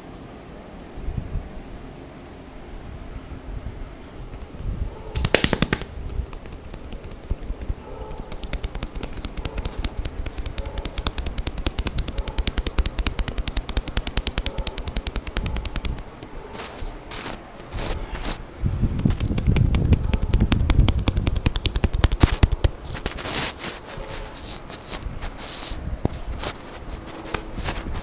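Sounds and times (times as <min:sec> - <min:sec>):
hands slapping a back: 0:04.4 - 0:28.0.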